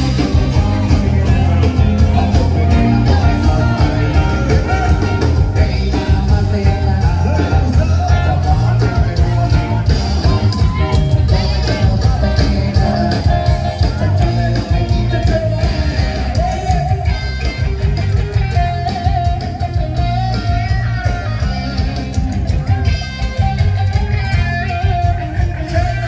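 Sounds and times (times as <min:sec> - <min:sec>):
person singing: 0:00.0 - 0:23.3
bass guitar: 0:00.0 - 0:26.0
drums: 0:00.0 - 0:26.0
electric guitar: 0:00.0 - 0:26.0.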